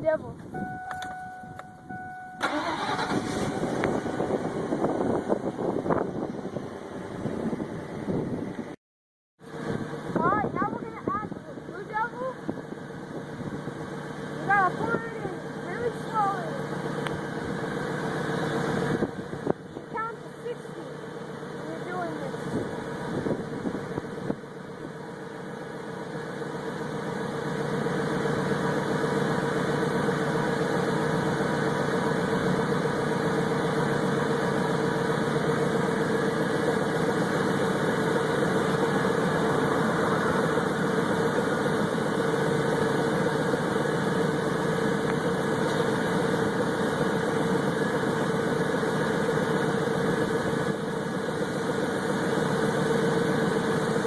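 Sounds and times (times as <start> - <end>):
truck engine idling: 0.0 - 8.8, 9.4 - 54.0.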